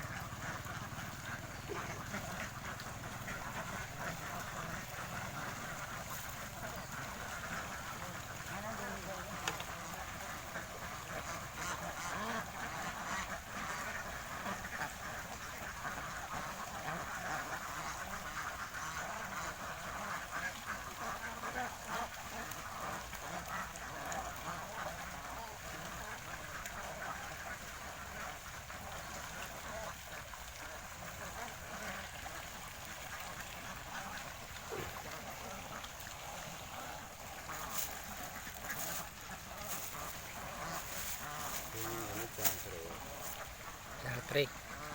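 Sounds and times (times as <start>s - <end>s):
flock of ducks quacking: 0.0s - 44.9s.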